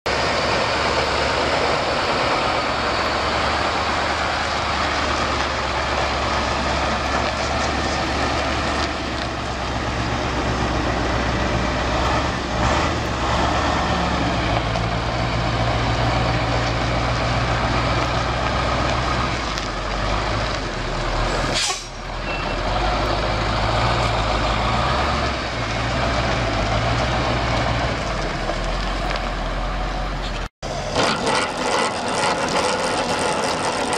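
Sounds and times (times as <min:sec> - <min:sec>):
truck engine driving past: 0:00.1 - 0:33.9.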